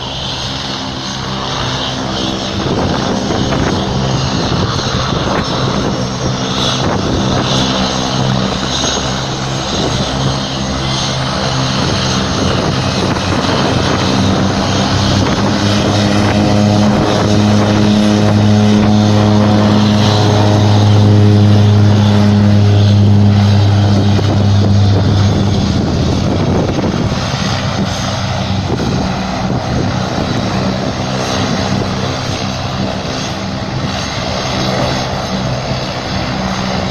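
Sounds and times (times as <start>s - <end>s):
propeller plane engine drone: 0.0s - 36.9s.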